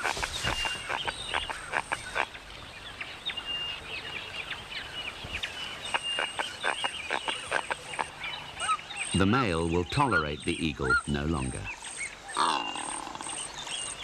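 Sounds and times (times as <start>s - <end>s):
birds harsh rapid calls: 0.0s - 14.0s.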